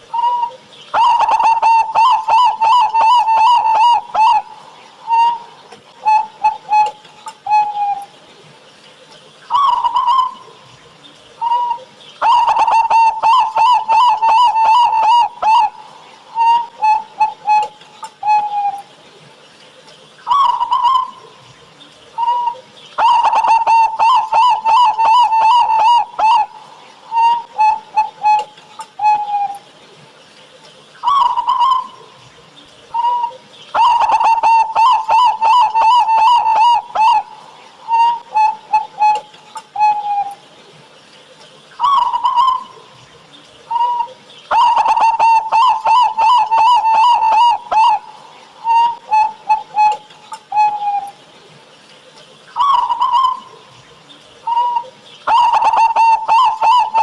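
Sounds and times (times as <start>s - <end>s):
dove cooing with rattling trill: 0.0s - 57.0s.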